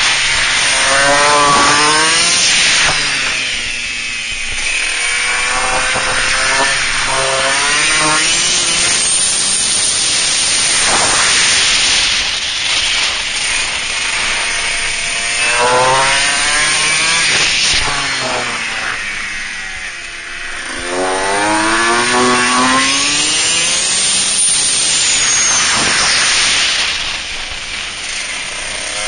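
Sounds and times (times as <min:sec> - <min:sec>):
motorcycle engine revving: 0:00.0 - 0:29.0
wind rush on microphone: 0:00.0 - 0:29.0.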